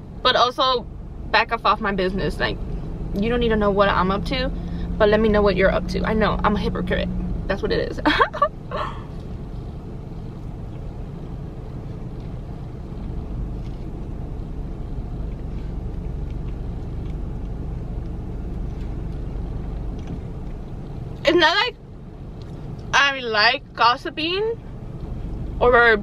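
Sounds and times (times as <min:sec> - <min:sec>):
low vehicle rumble: 0:00.0 - 0:26.0.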